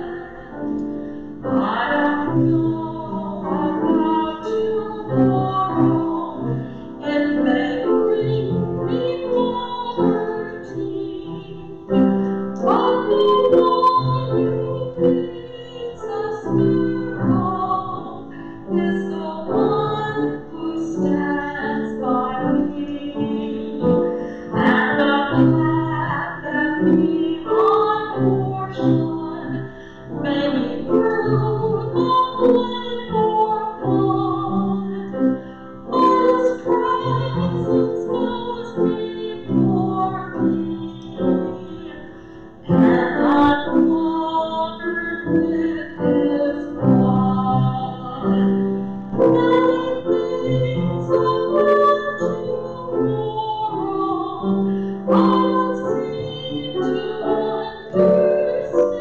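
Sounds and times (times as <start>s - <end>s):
grand piano piece: 0.0s - 59.0s.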